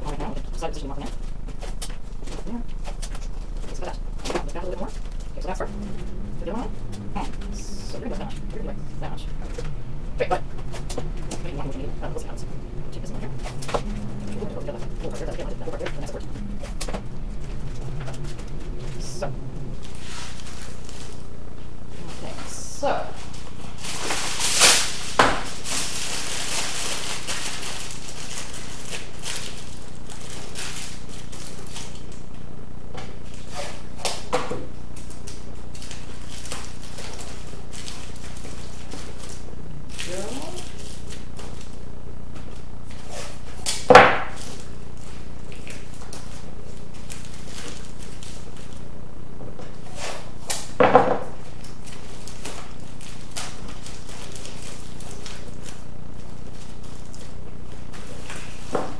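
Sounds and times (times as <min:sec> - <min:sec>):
aluminium foil crinkling: 0:00.0 - 0:32.5, 0:33.1 - 0:49.0, 0:49.7 - 0:58.9
low background hum: 0:00.0 - 0:58.9.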